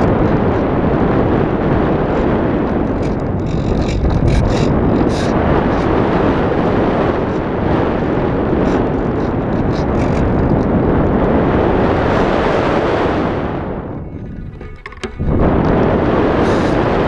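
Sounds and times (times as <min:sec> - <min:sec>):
wind roaring: 0:00.0 - 0:17.0.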